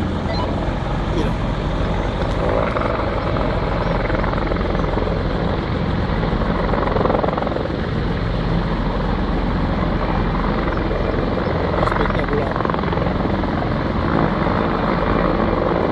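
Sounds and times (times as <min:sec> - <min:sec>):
helicopter rotor chopping: 0:00.0 - 0:15.9.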